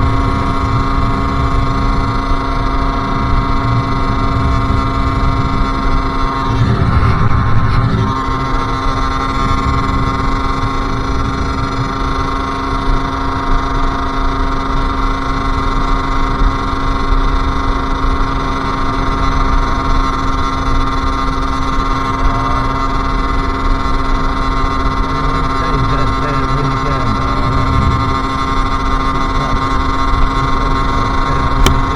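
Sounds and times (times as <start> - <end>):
low rumble: 0.0 - 13.7, 18.8 - 31.9
two-stroke engine running: 0.0 - 31.9.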